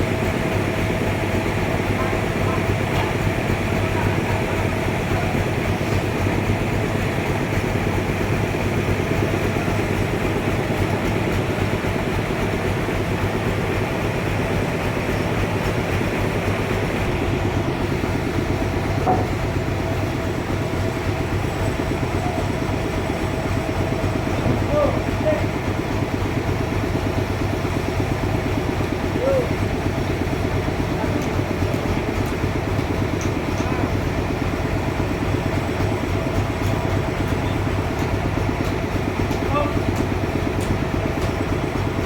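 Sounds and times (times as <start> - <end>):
sawmill machinery drone: 0.0 - 42.0.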